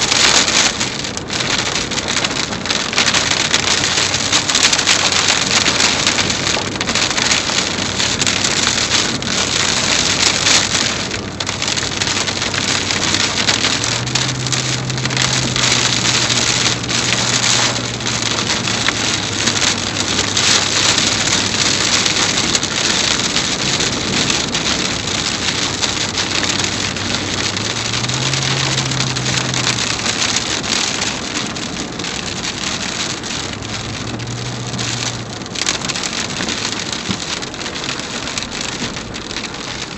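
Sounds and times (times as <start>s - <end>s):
low car hum: 0.0s - 39.9s
rain and wind on car: 0.0s - 39.9s.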